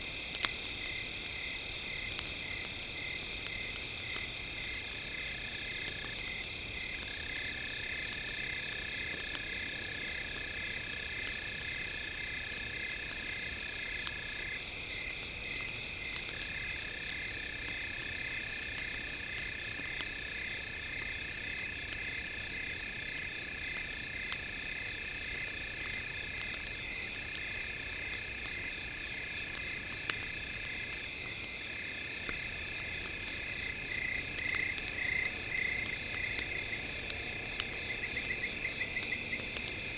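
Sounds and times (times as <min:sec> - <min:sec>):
campfire crackling: 0:00.0 - 0:39.9
crickets and insects trilling: 0:00.0 - 0:39.9.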